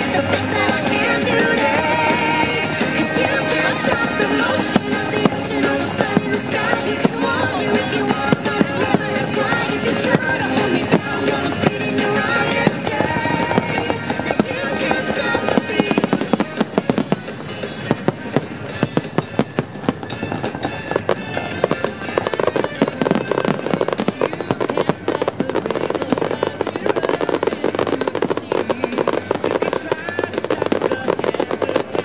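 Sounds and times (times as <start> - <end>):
fireworks bangs and crackling: 0.0 - 32.0
music playing: 0.0 - 32.0.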